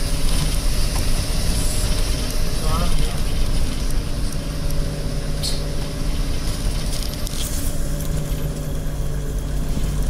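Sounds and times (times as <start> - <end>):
engine and tyre drone: 0.0 - 10.0.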